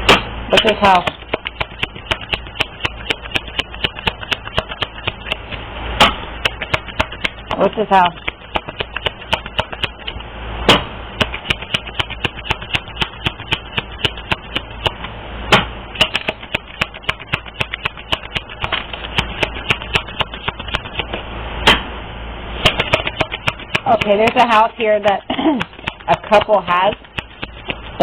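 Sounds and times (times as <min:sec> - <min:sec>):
low steady hum: 0:00.0 - 0:28.0
cards being shuffled by hand: 0:00.6 - 0:05.6, 0:06.4 - 0:10.2, 0:11.2 - 0:15.1, 0:16.0 - 0:21.2, 0:22.6 - 0:28.0.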